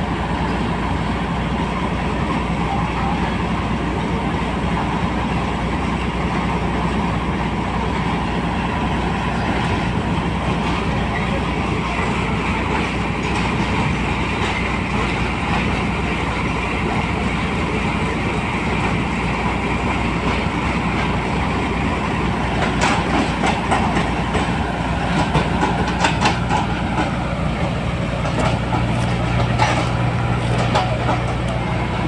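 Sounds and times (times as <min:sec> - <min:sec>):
combine harvester engine droning: 0:00.0 - 0:32.0
diesel tractor passing close: 0:00.0 - 0:32.0.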